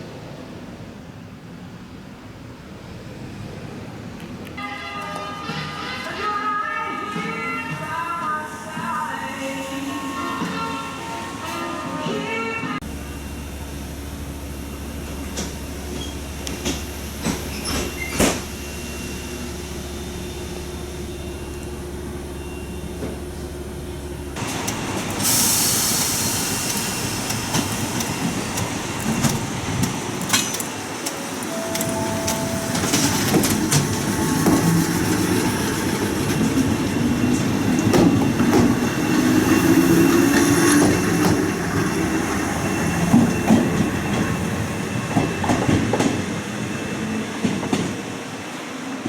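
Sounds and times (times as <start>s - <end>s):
tram running noise: 0.1s - 49.0s.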